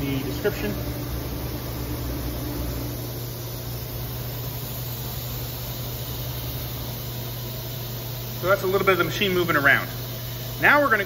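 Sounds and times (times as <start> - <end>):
cnc router hum and hiss: 0.0 - 11.0.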